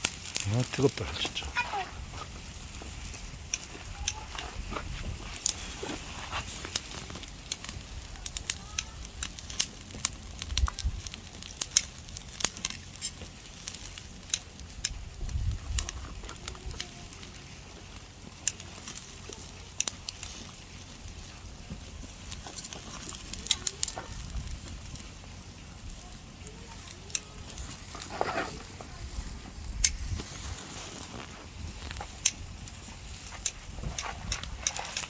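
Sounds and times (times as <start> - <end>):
pork sizzling on a grill: 0.0 - 35.0
wood fire crackling and popping: 0.0 - 35.0.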